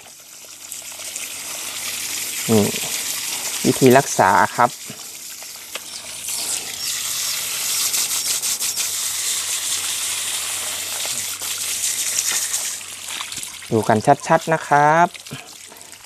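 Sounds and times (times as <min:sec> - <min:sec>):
hose water splashing on muddy ground: 0:00.0 - 0:16.0.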